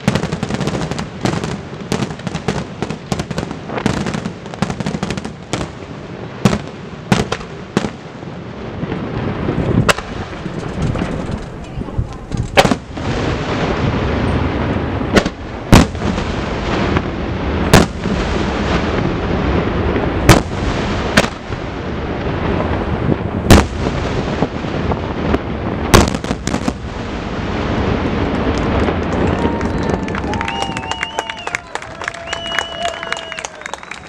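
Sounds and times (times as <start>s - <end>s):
firework bangs: 0.0s - 34.0s
firework crackling: 0.0s - 34.0s.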